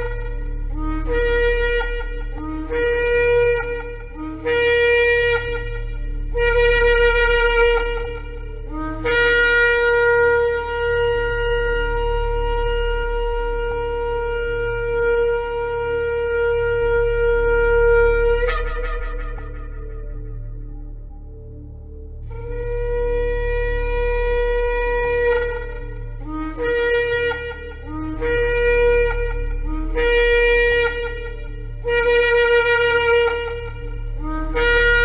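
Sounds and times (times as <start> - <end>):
ram's-horn trumpet blasts: 0.0 - 21.4, 22.2 - 35.0
low steady hum: 0.0 - 35.0.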